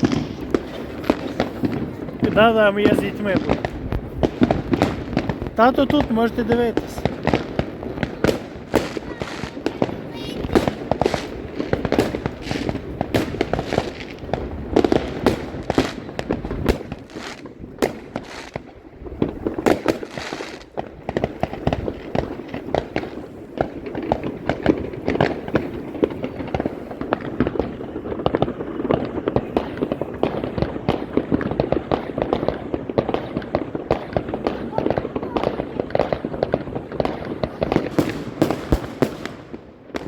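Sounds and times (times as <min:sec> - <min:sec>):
fireworks crackling and banging: 0:00.0 - 0:40.0.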